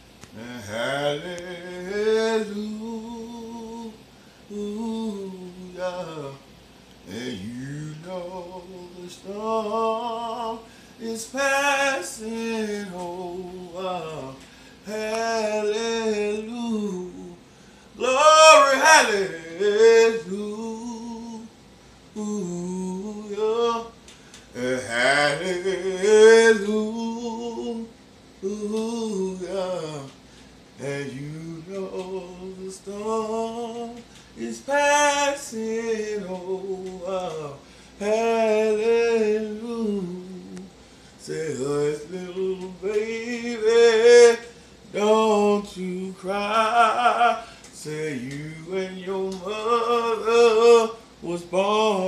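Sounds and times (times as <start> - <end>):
man singing gospel: 0.0 - 52.0.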